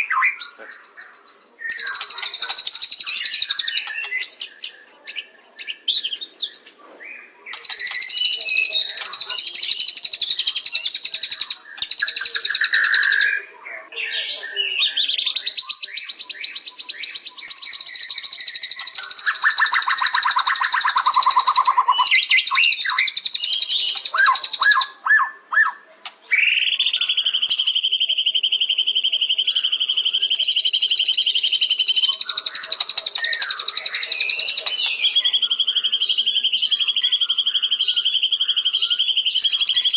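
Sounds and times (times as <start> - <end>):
songbird trilling and whistling: 0.0 - 39.9.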